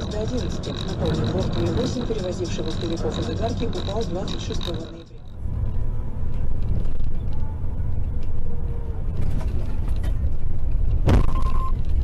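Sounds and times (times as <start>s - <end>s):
car rumbling on road: 0.0s - 12.0s.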